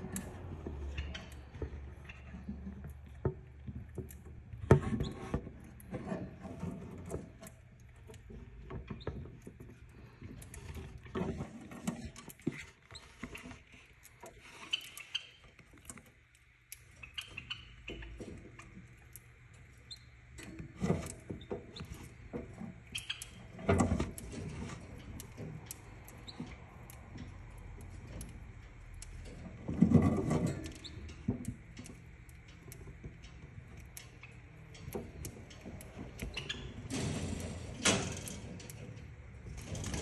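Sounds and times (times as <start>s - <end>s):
parrotlet clicks and scratches: 0.0s - 40.0s.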